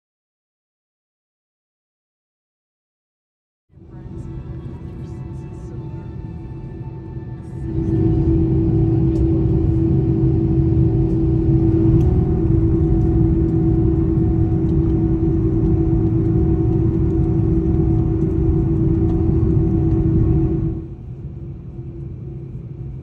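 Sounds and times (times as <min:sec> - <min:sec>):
jet engines droning: 0:03.8 - 0:23.0
low rumble of taxiing plane: 0:03.8 - 0:23.0.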